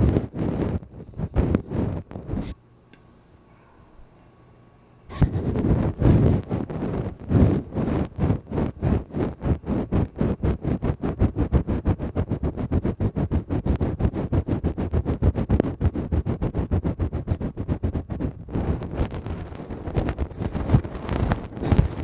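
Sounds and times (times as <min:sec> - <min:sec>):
fingers scratching microphone: 0:00.0 - 0:02.6, 0:05.1 - 0:22.0.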